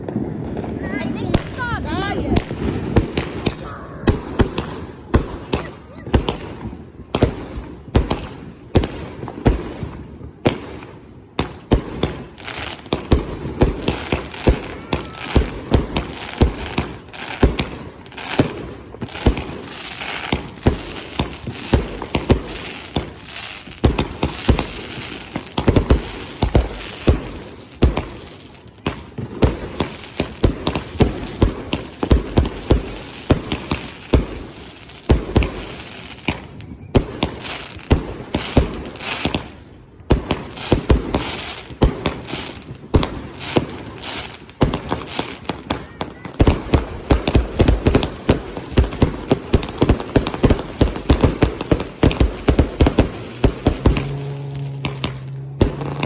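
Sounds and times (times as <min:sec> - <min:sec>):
crackling hiss of fireworks: 0:00.0 - 0:56.0
firework bangs: 0:00.0 - 0:56.0.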